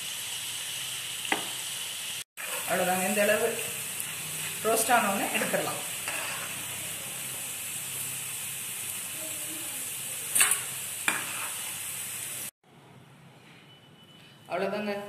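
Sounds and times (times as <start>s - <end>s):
food deep-frying in oil: 0.0s - 12.6s.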